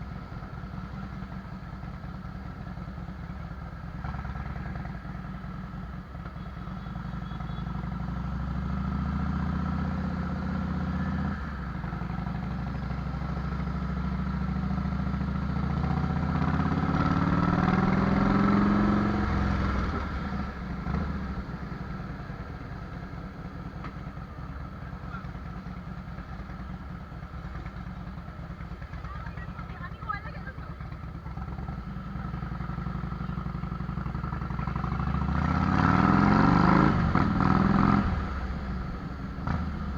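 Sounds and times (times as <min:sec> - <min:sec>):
motorcycle engine revving: 0:07.0 - 0:29.7, 0:30.5 - 0:39.9.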